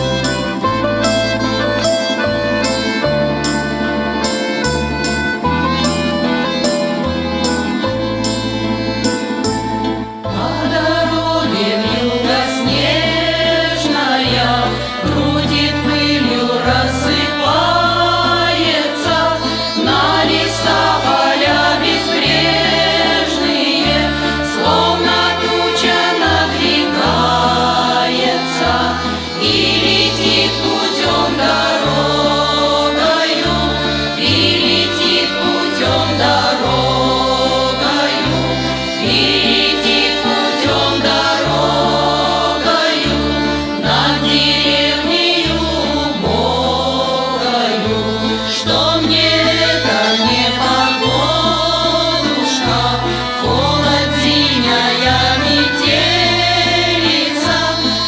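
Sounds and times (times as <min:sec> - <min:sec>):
instrumental accompaniment: 0:00.0 - 0:58.0
low bass line: 0:00.0 - 0:58.0
voices singing in chorus: 0:10.3 - 0:58.0.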